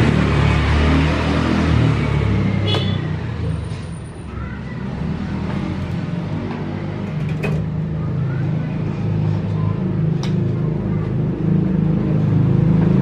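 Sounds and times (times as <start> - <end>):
low engine rumble: 1.6 - 13.0.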